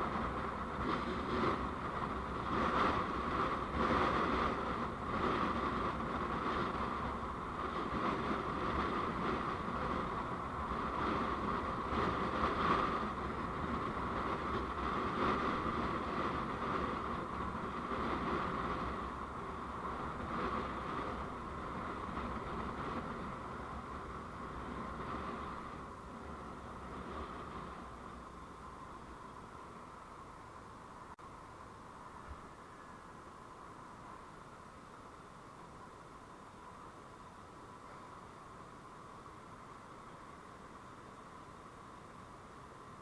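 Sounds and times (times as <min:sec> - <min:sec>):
vehicle road noise: 0:00.0 - 0:43.0.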